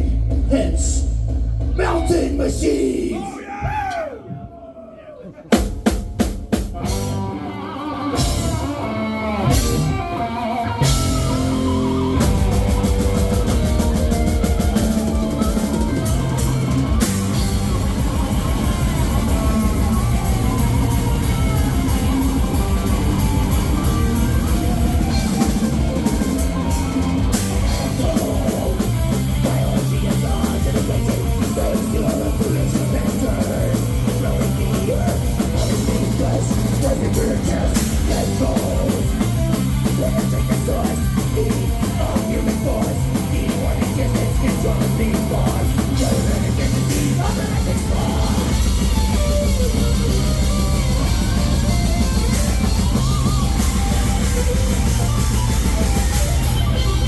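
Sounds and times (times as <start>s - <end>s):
heavy metal band playing live: 0.0s - 3.2s, 5.6s - 57.0s.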